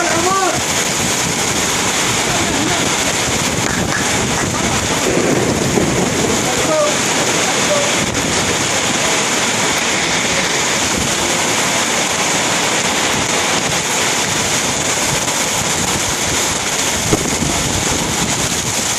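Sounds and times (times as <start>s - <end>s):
heavy rain pouring: 0.0s - 18.9s.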